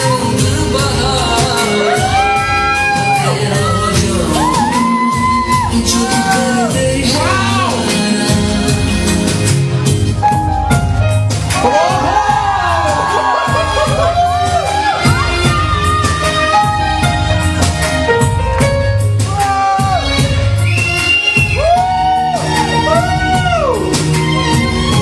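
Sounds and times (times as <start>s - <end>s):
dance music with singing: 0.0s - 25.0s.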